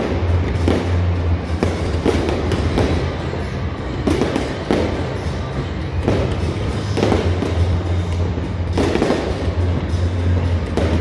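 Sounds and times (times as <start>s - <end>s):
fireworks bangs: 0.0s - 11.0s
music with low bass: 0.0s - 11.0s.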